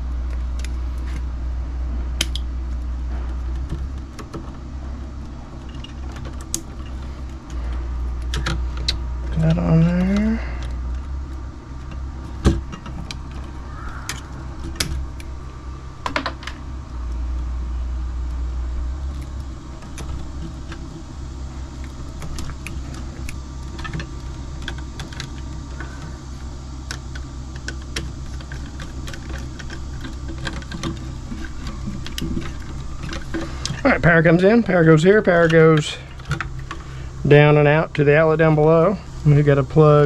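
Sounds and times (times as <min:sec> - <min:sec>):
steady low hum: 0:00.0 - 0:40.0
clicks and rattles of wire: 0:02.2 - 0:17.5, 0:19.0 - 0:38.1.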